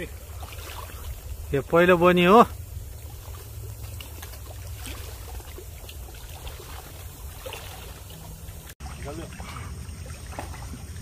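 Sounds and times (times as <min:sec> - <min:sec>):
water washing on rocky shore: 0:00.0 - 0:11.0.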